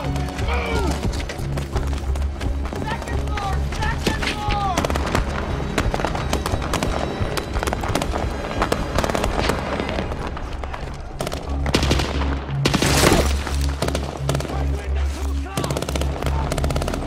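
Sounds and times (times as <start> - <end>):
dramatic music score: 0.0 - 17.0.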